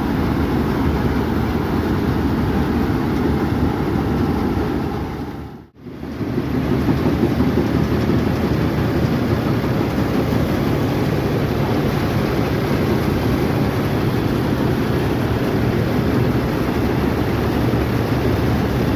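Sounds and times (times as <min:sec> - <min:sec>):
harvesting machine rumbling drone: 0:00.0 - 0:18.9.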